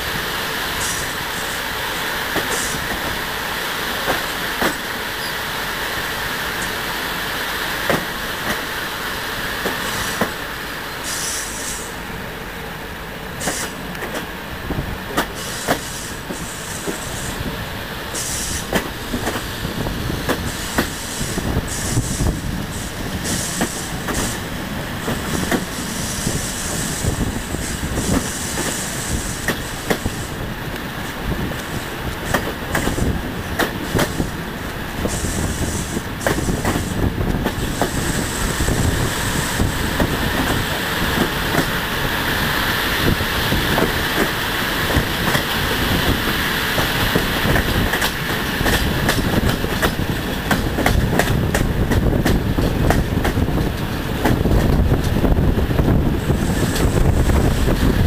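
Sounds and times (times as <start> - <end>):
train wheel and wind noise: 0.0 - 58.0.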